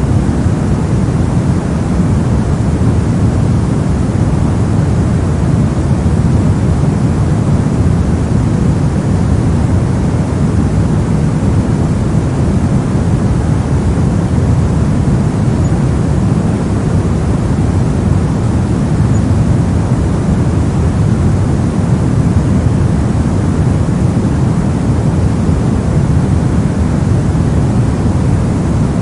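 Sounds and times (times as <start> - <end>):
brown noise rumbling hiss: 0.0 - 29.0.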